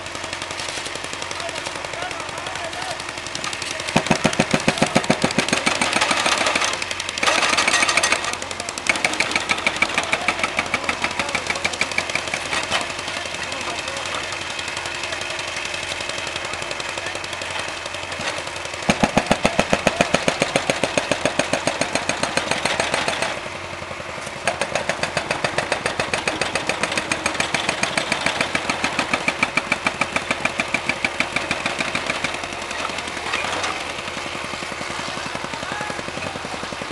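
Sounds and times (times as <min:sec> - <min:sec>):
tamping rammer pounding ballast: 0:00.0 - 0:36.9.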